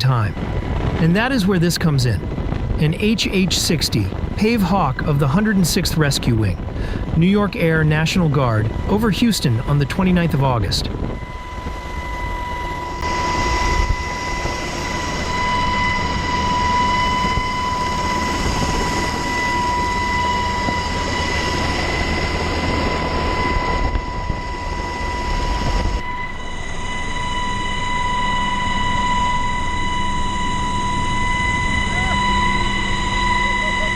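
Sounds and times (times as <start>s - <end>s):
helicopter rotors and engines: 0.0s - 33.9s
steady high whine: 0.0s - 33.9s.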